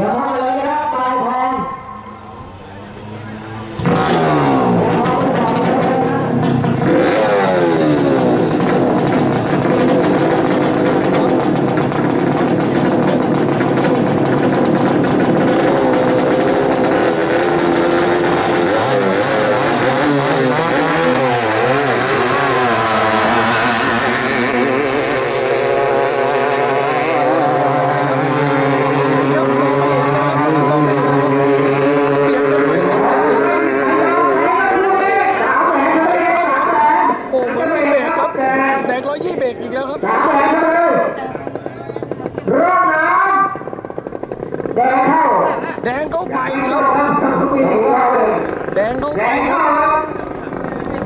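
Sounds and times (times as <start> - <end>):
racing boat engines revving: 0.0 - 51.0.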